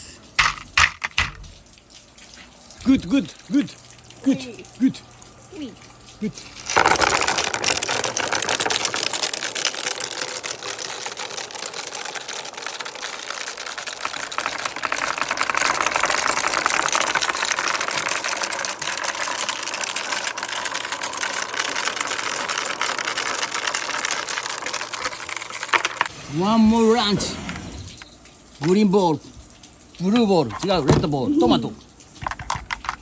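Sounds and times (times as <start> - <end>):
balls clattering down marble run: 0.4 - 1.6, 6.6 - 29.2, 30.0 - 33.0.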